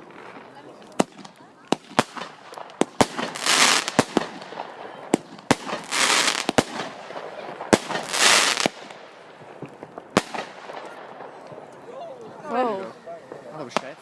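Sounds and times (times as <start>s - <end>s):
fireworks crackling hiss: 0.0s - 12.4s
fireworks banging: 0.0s - 14.0s.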